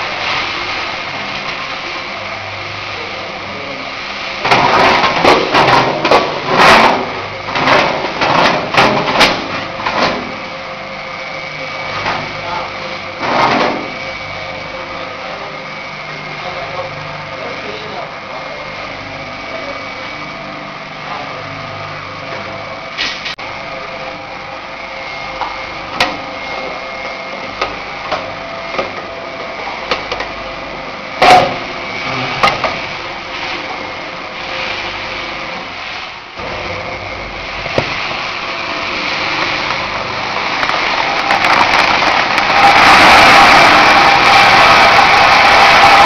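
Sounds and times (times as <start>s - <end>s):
roaster machine humming: 0.0s - 46.0s.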